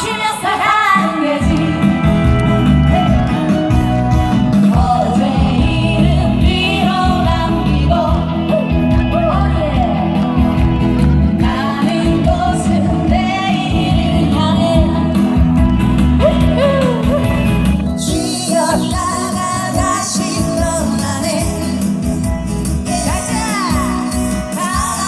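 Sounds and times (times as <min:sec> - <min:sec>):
women singing pop song: 0:00.0 - 0:25.0
amplified backing music: 0:00.8 - 0:25.0.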